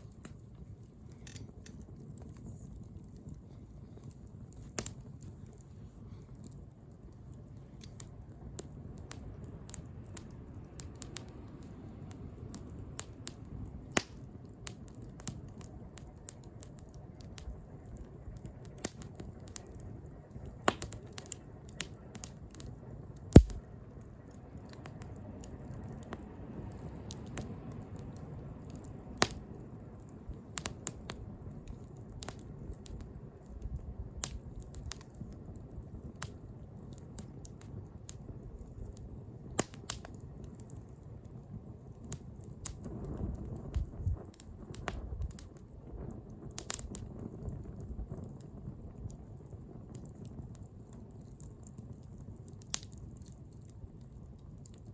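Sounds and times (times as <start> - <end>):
low rumble of flames: 0.0 - 54.9
wood crackling and popping: 0.0 - 54.9.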